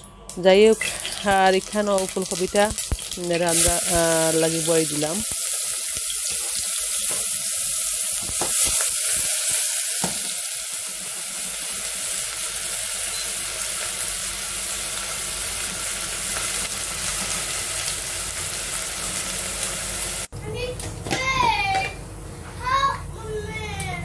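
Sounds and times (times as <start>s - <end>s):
onion sizzling in hot oil: 0.4s - 20.3s.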